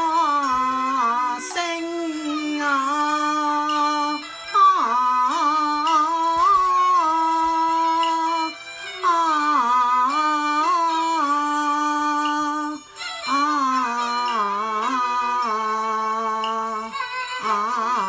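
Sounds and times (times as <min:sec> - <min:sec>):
opera melody with sliding notes: 0:00.0 - 0:18.0.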